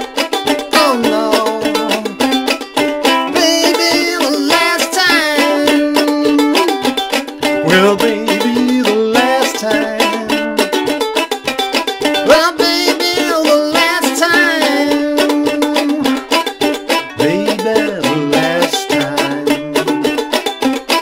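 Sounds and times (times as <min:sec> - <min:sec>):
ukulele plucked and strummed: 0:00.0 - 0:21.0.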